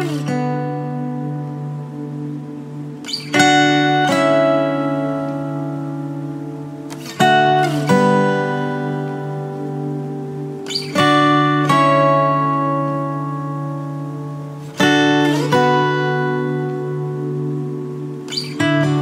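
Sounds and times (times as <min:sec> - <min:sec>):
acoustic guitar chords strummed: 0:00.0 - 0:19.0.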